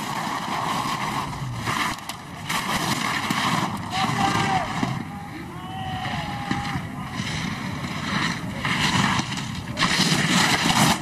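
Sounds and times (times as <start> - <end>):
skis scraping on snow: 0.0 - 11.0.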